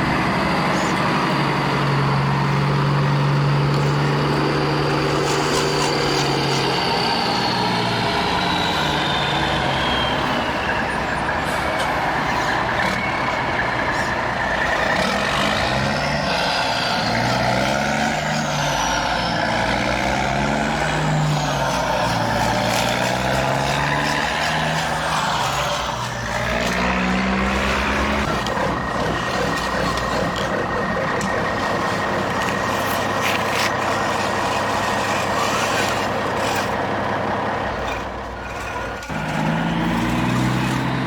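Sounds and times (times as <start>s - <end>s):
low engine-like drone: 0.0s - 41.0s
small electric motors whining: 0.0s - 41.0s.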